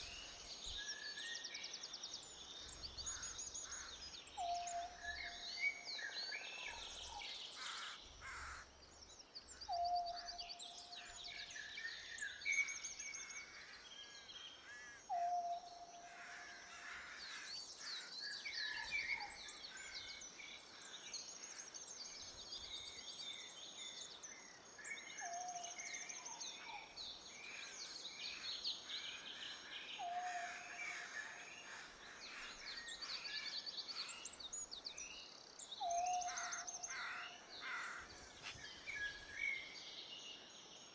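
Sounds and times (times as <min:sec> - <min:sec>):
birds singing with trills: 0:00.0 - 0:40.9.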